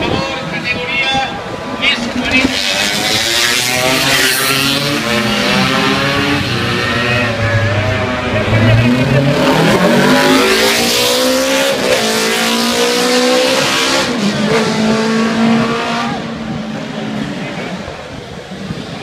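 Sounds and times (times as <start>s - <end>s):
motorcycle engines revving: 1.4s - 19.0s.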